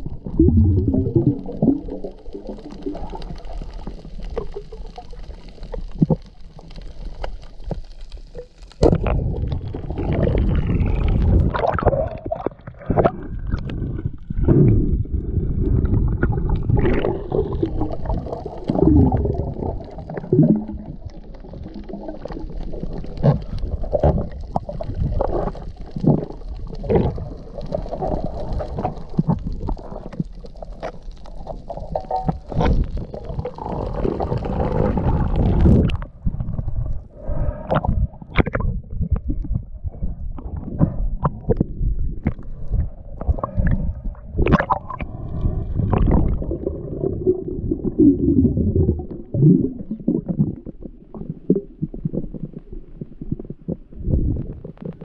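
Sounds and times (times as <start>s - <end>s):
underwater knocks and splashes: 0.0s - 55.0s
underwater rumbling and gurgling: 0.0s - 55.0s.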